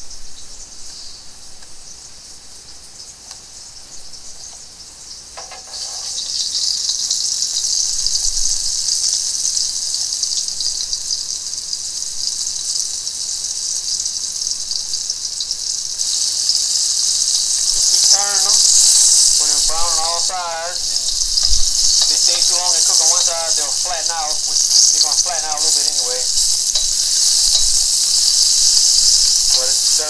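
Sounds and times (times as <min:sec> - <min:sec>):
fish balls sizzling in oil: 0:02.6 - 0:30.0.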